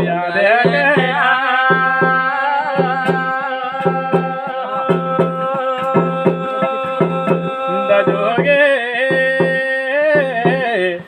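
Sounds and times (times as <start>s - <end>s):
hand drum rhythm: 0.0s - 11.0s.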